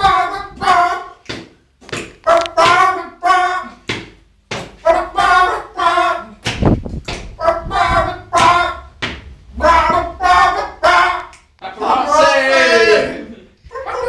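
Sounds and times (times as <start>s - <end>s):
young male voices singing: 0.0s - 1.4s, 2.2s - 3.9s, 4.7s - 6.5s, 7.3s - 14.0s.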